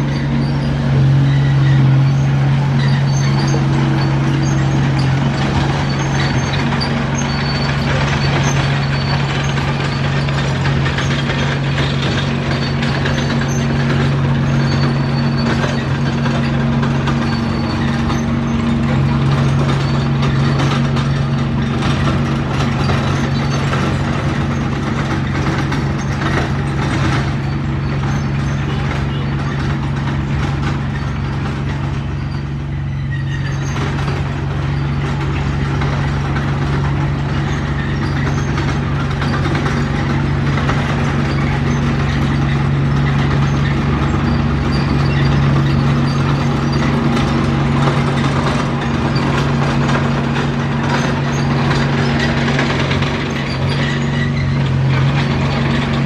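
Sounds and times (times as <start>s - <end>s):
bulldozer diesel engine drone: 0.0s - 56.0s
mechanical clatter: 0.0s - 56.0s.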